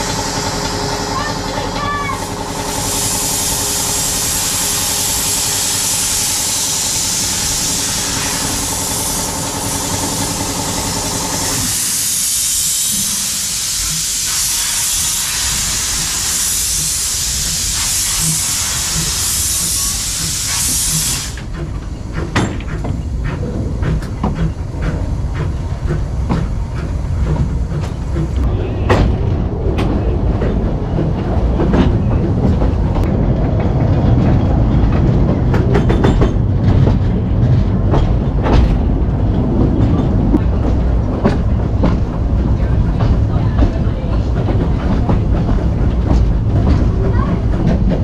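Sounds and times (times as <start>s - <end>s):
locomotive rumbling and clanking: 0.0s - 48.0s
steam locomotive hissing: 0.0s - 48.0s.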